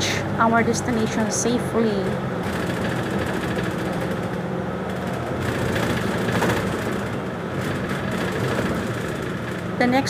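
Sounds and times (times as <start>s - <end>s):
bus engine hum: 0.0s - 10.0s
road noise: 0.0s - 10.0s.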